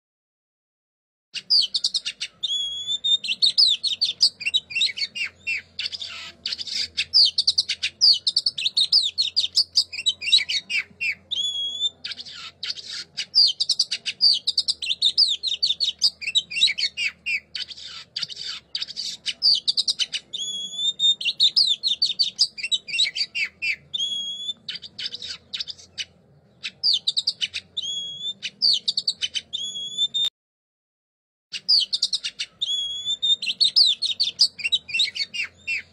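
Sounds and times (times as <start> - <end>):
songbird singing: 1.4 - 30.3, 31.5 - 35.9.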